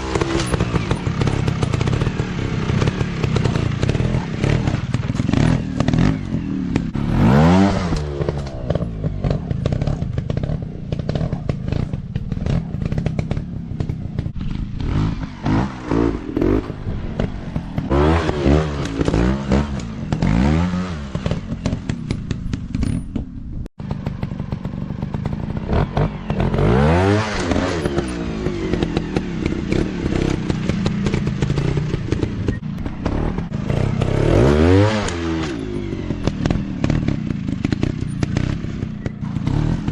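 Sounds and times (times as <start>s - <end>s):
dirt bike engines revving: 0.0s - 23.1s, 23.8s - 39.9s.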